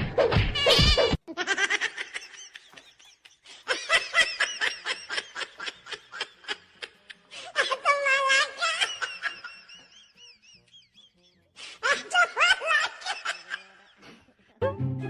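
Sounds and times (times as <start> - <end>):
person laughing: 1.2 - 14.3.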